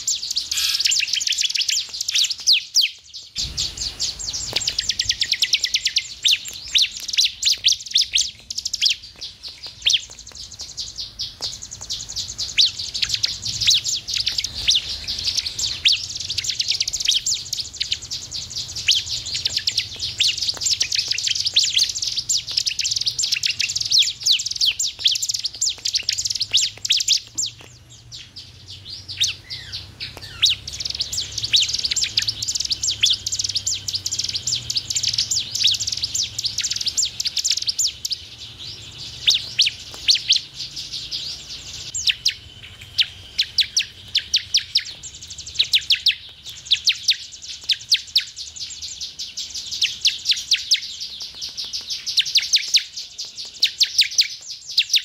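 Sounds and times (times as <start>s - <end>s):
bird singing high chirps: 0.0s - 55.0s.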